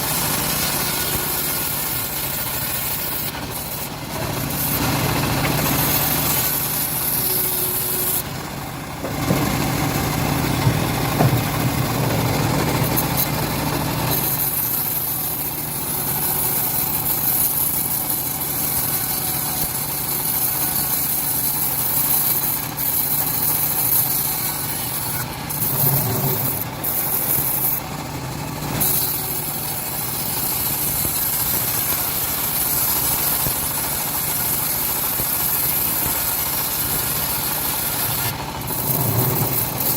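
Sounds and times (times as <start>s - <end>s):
bandsaw mill drone: 0.0s - 39.9s
saw blade rasping in wood: 0.0s - 39.9s.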